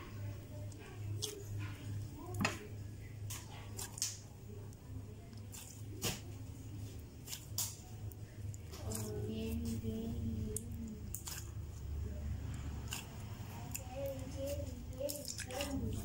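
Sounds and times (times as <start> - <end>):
low steady hum: 0.0 - 16.0
slime squelching by hand: 0.0 - 16.0.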